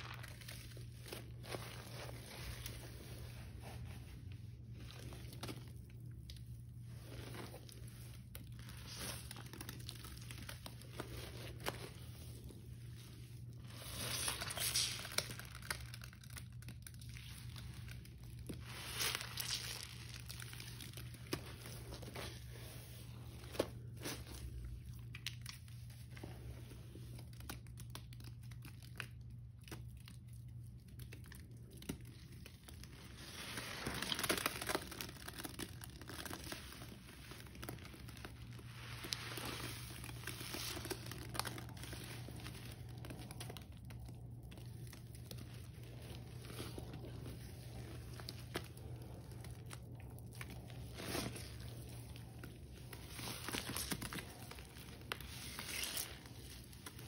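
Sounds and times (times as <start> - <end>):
sponge squishing in cleanser paste: 0.0 - 57.0.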